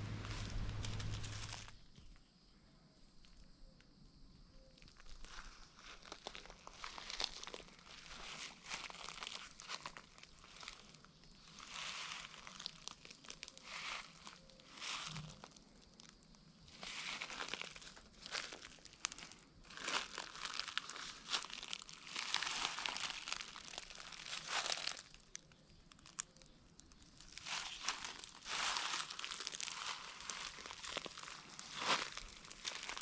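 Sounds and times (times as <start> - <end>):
footsteps crunching dry leaves: 0.0 - 1.8, 4.9 - 16.1, 16.7 - 26.3, 26.9 - 33.0.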